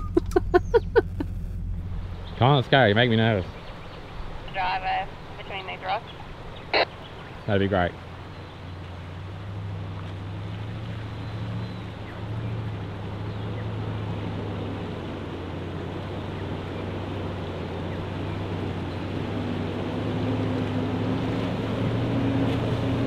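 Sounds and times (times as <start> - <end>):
engine running at low revs: 0.0 - 23.0
water rushing around vehicle: 0.0 - 23.0.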